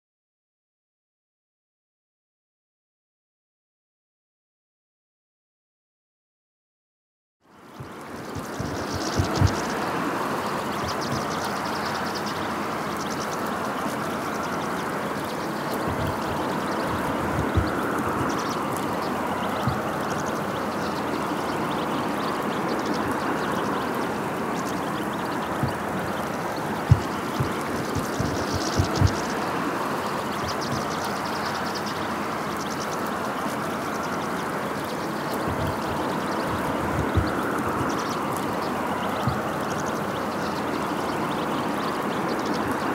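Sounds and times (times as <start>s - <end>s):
finches twittering: 7.5s - 42.9s
steady rushing noise: 7.8s - 42.9s.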